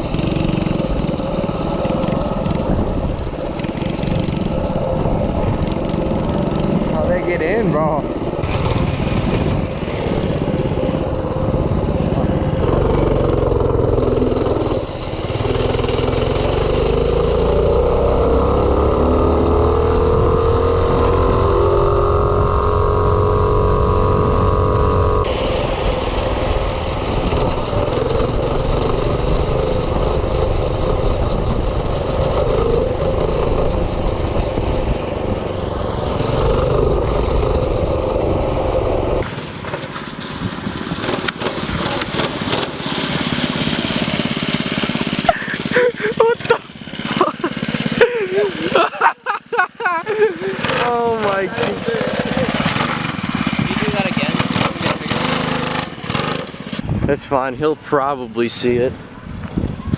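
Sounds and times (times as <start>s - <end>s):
minibike engine accelerating: 0.0s - 59.9s.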